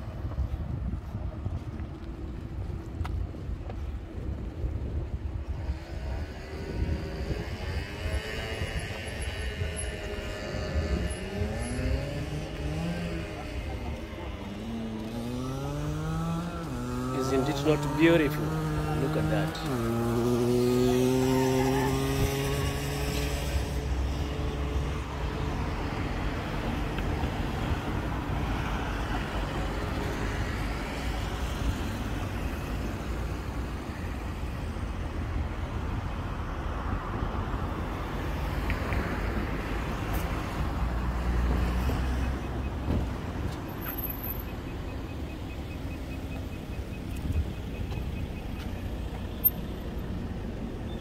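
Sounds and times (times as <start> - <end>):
road vehicle rumble: 0.0 - 51.0.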